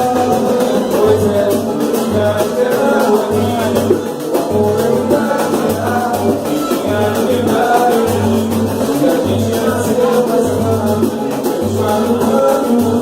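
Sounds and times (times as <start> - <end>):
percussion groove: 0.0 - 13.0
person singing: 0.0 - 13.0.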